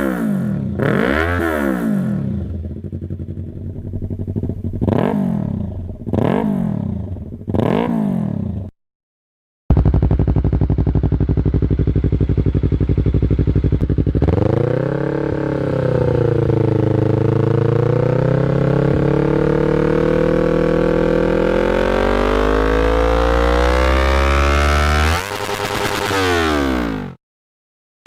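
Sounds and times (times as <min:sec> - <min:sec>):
motorcycle engine revving: 0:00.0 - 0:08.7, 0:09.7 - 0:27.2.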